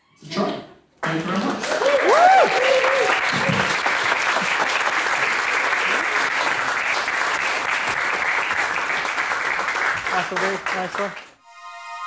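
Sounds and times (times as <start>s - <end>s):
audience applauding: 1.0s - 11.4s.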